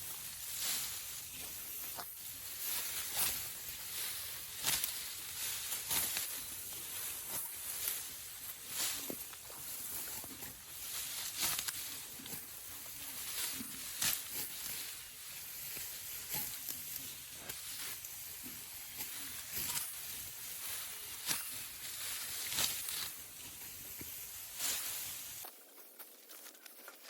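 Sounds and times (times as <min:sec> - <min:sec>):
dry stalks rustling: 0:00.0 - 0:25.5
crisp crackles and snaps: 0:00.0 - 0:27.0.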